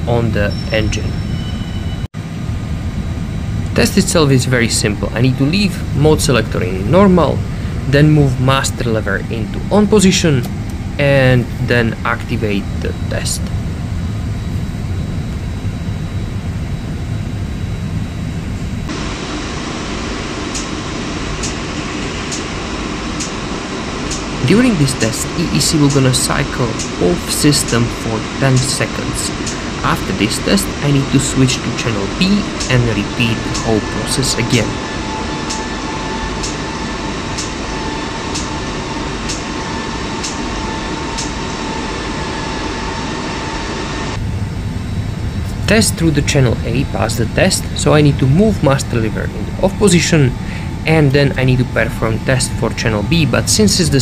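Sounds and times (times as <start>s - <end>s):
steady hum with faint whine: 0.0s - 54.0s
steady rushing noise: 2.2s - 54.0s.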